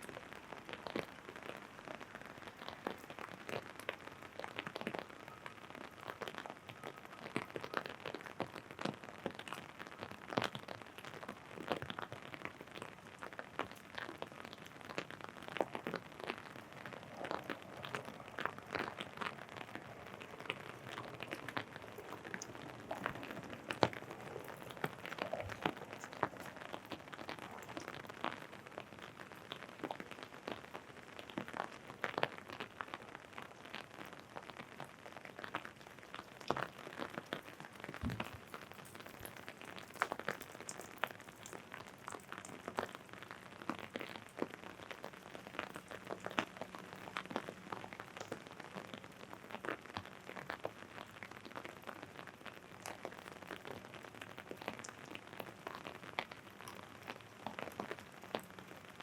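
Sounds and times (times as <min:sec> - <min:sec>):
light hiss of rain: 0:00.0 - 0:59.0
raindrops tapping on umbrella: 0:00.0 - 0:59.0.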